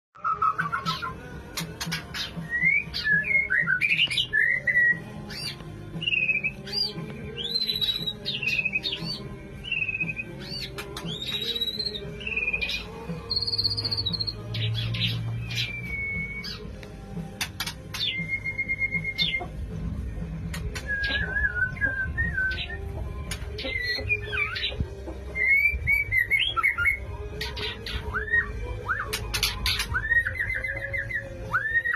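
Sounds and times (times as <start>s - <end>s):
bird whistled song: 0.2s - 1.2s, 1.9s - 16.7s, 17.6s - 19.7s, 20.5s - 31.9s
bird trill: 1.8s - 16.7s, 17.4s - 19.6s, 20.7s - 31.9s.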